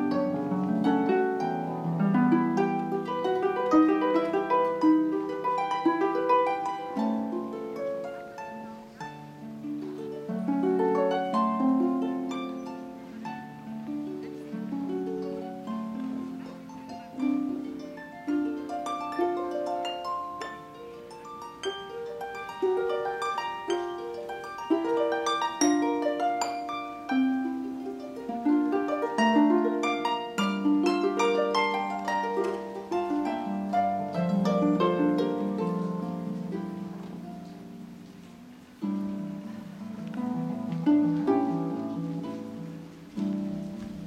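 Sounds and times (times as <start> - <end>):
harp playing arpeggios: 0.0 - 44.0.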